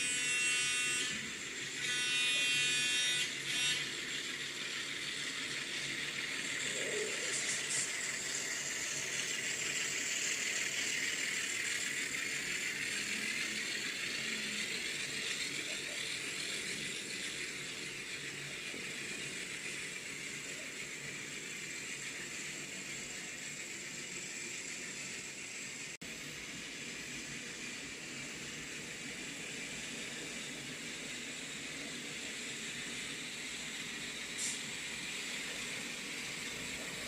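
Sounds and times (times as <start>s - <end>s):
model train diesel engine sound: 0.0s - 37.0s
hiss of wheels on rail: 2.5s - 37.0s.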